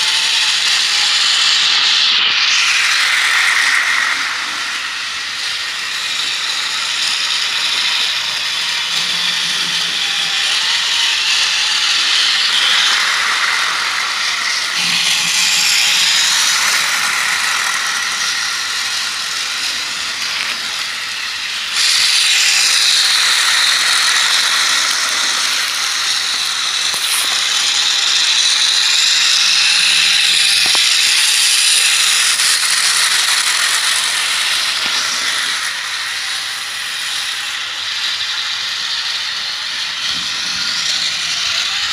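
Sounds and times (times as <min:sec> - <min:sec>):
toy train motor whirring: 0:00.0 - 0:41.9
wheels rattling over track joints: 0:00.0 - 0:41.9.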